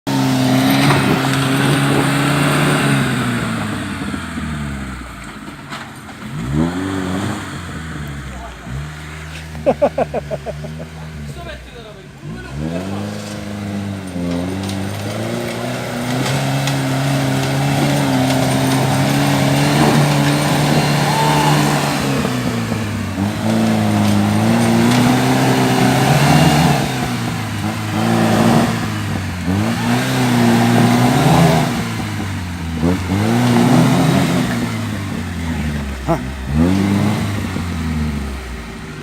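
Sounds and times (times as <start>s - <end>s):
engine revving hard: 0.0s - 5.2s, 6.2s - 39.0s.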